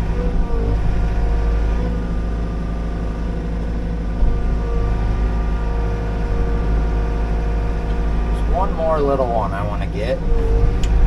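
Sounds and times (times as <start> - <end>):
excavator diesel engine running: 0.0 - 11.0
hydraulic whine: 0.0 - 11.0.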